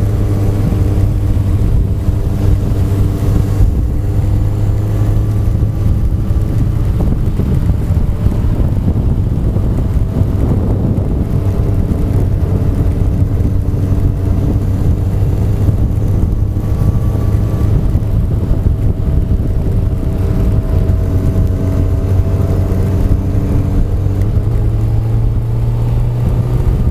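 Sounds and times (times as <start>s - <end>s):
motorcycle engine droning: 0.0s - 26.9s
wind rushing over microphone: 0.0s - 26.9s.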